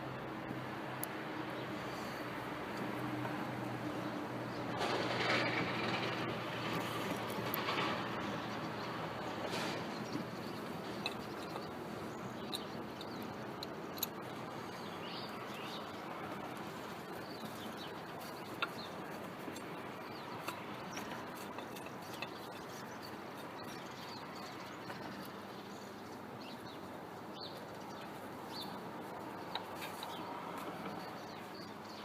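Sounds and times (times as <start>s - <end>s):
steady background hiss: 0.0s - 32.0s
birds chirping: 1.0s - 32.0s.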